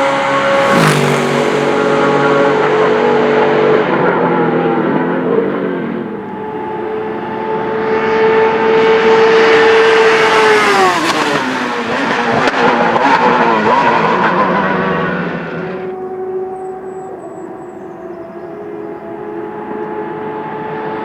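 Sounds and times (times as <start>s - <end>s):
race car passing at high revs: 0.0s - 21.0s.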